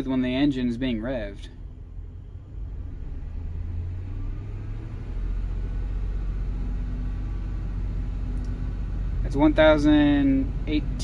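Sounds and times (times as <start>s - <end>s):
van engine revving: 0.0s - 11.0s.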